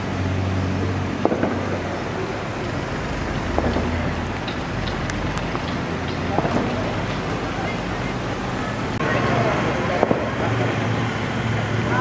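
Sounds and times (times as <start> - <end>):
car engines idling in traffic: 0.0 - 12.0
outdoor noise: 0.0 - 12.0.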